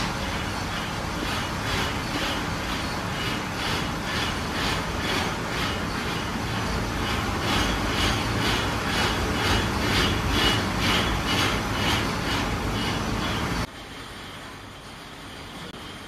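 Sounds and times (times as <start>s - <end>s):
lathe belt clacking: 0.0s - 13.7s.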